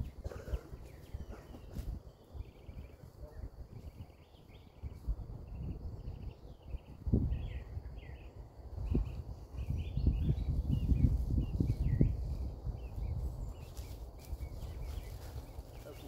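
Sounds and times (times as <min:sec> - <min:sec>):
songbirds chirping and trilling: 0:00.0 - 0:16.0.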